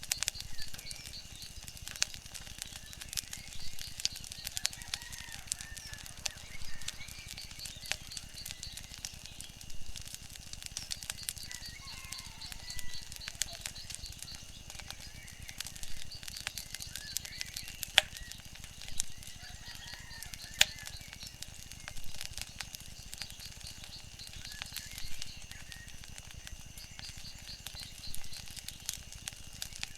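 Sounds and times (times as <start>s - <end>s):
faint chirping calls: 0.0s - 29.9s
wood fire crackling and popping: 0.0s - 29.9s.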